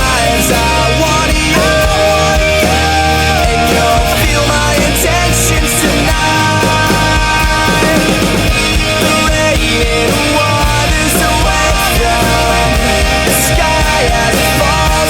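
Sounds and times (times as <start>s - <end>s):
bass guitar: 0.0s - 15.0s
distorted electric guitars: 0.0s - 15.0s
drums: 0.0s - 15.0s.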